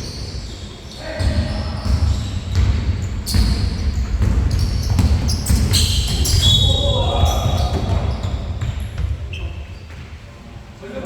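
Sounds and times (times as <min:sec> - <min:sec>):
basketballs bouncing on court floor: 0:01.0 - 0:10.2.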